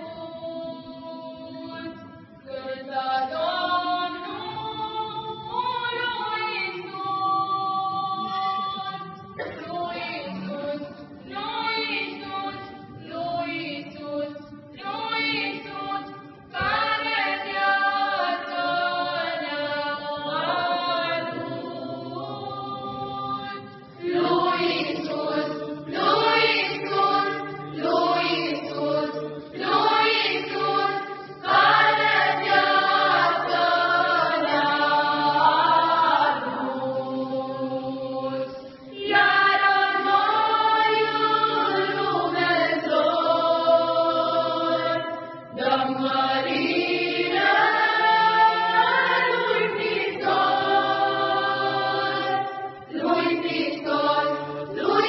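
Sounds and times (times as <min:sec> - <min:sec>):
children's choir singing a hymn: 0:00.0 - 0:55.0.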